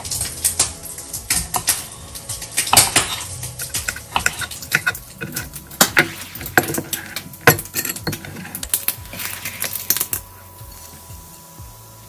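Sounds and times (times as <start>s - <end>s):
utensil against frying pan: 0.0s - 12.0s.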